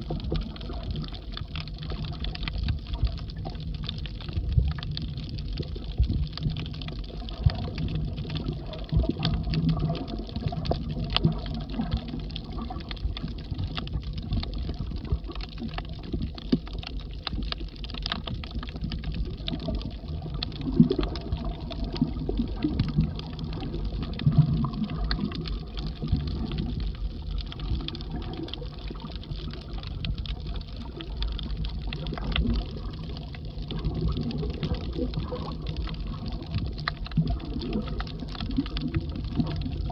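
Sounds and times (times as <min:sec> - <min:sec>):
faint clicks and crackles: 0:00.0 - 0:39.9
muffled underwater water noise: 0:00.0 - 0:39.9.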